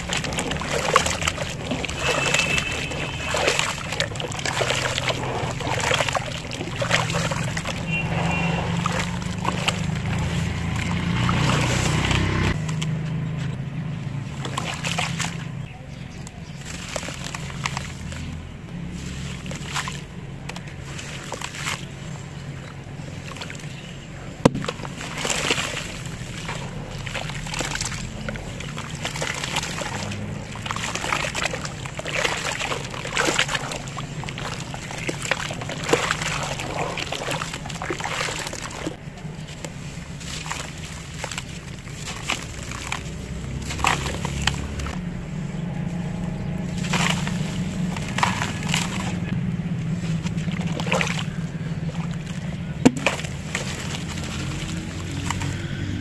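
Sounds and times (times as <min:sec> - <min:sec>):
hands sloshing wet cement: 0:00.0 - 0:56.0
water splashes: 0:00.0 - 0:56.0.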